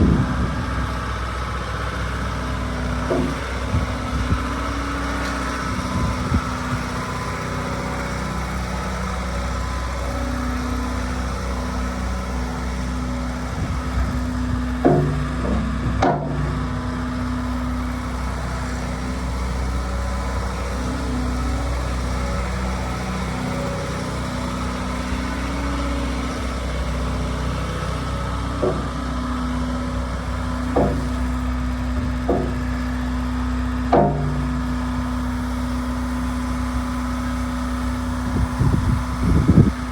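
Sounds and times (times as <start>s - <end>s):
excavator diesel engine running: 0.0s - 39.9s
short clunks: 2.2s - 8.4s, 11.2s - 39.9s.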